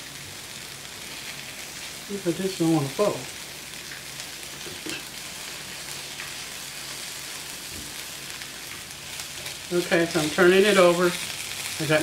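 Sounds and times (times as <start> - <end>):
tacos sizzling on a griddle: 0.0 - 12.0.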